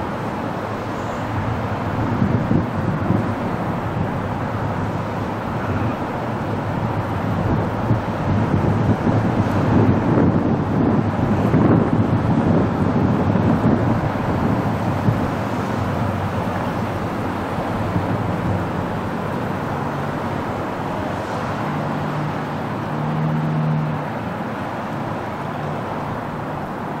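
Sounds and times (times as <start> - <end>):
diesel engine drone: 0.0 - 27.0
train rumbling: 0.0 - 27.0.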